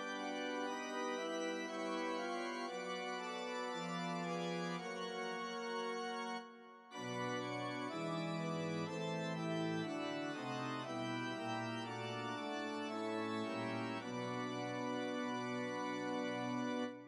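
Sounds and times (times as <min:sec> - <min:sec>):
organ-like keyboard chords: 0:00.0 - 0:17.0.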